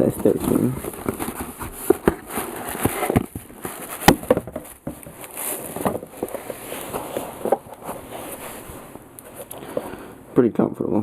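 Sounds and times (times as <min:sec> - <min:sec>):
sneakers being handled: 0:00.0 - 0:09.9.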